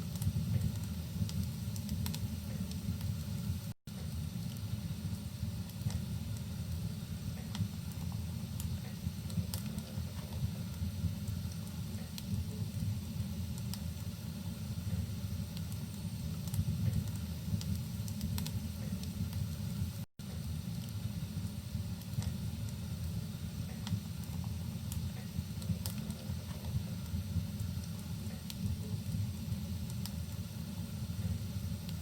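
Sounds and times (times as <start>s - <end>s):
faint steady hiss: 0.0s - 32.0s
wood fire crackling: 0.0s - 32.0s.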